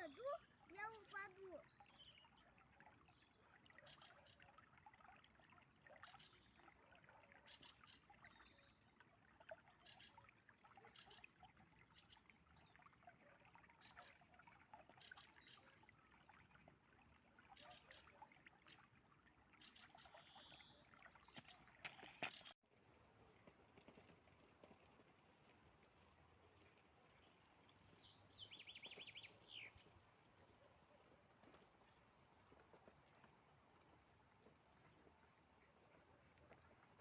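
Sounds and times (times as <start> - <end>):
river water trickling: 0.0 - 37.0.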